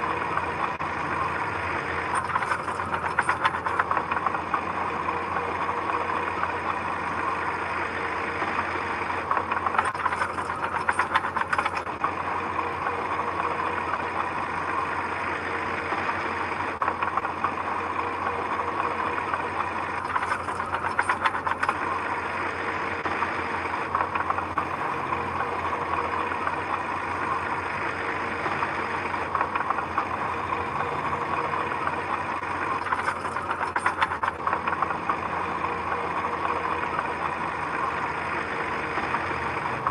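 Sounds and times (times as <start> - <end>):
heavy machine engine running: 0.0 - 39.9
rattling clatter: 1.8 - 39.9.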